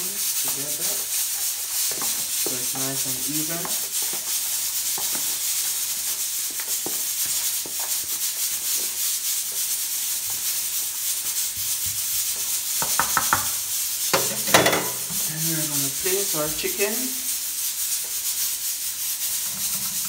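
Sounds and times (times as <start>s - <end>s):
spoon stirring dry flour: 0.1s - 20.0s.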